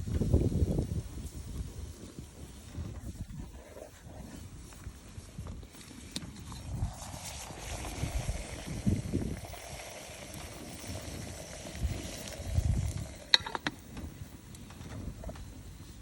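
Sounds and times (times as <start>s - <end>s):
wind gusts on microphone: 0.0s - 16.0s.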